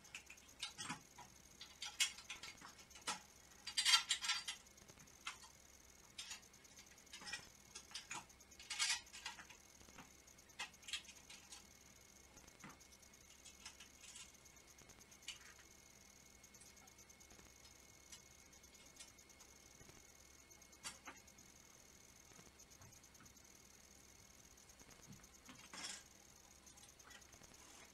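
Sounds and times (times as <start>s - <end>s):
hardware clicks and clinks: 0.0s - 27.9s.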